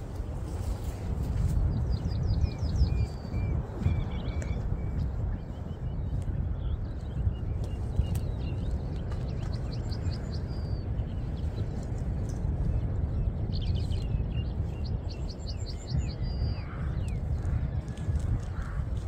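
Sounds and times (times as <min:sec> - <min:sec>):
steady low rumble: 0:00.0 - 0:19.0
small birds chirping: 0:01.4 - 0:19.0.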